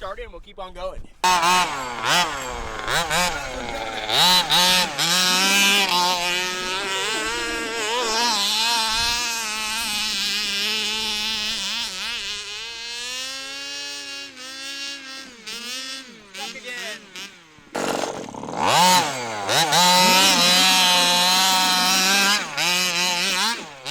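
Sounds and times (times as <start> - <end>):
small two-stroke engine revving: 1.2 - 23.9.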